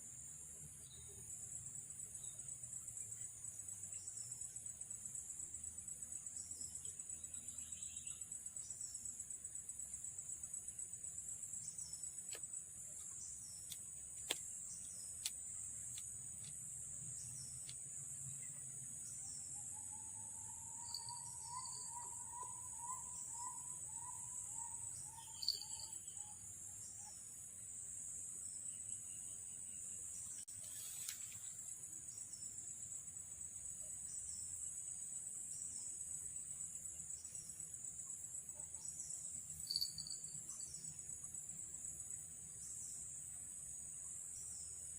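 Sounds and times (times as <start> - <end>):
night insects chorus: 0.0 - 44.9.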